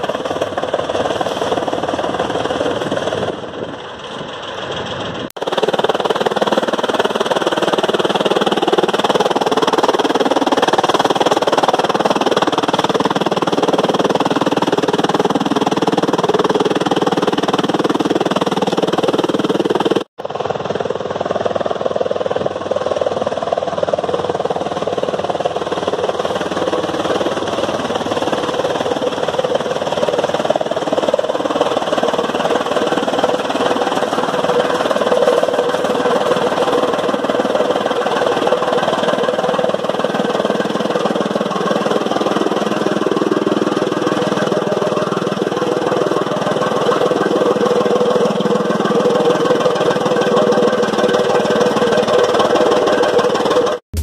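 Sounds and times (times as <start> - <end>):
tractor engine under load: 0.0 - 20.0, 24.3 - 54.0.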